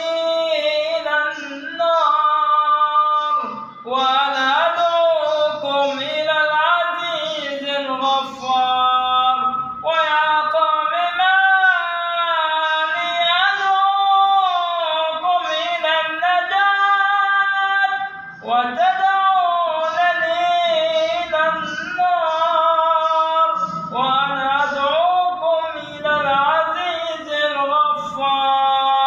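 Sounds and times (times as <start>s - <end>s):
person reciting melodically: 0.0s - 29.0s.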